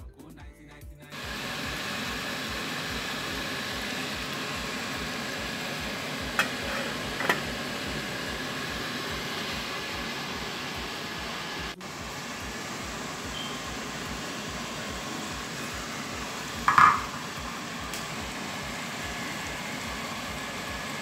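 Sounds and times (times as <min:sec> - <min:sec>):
food sizzling and bubbling in a pan: 0:01.1 - 0:21.0.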